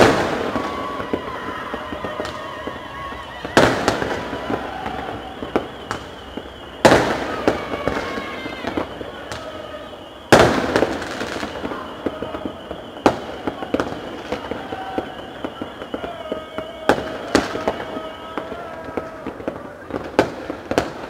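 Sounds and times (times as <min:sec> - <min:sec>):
firecracker cracks and pops: 0:00.0 - 0:21.0
firework bangs: 0:00.0 - 0:21.0.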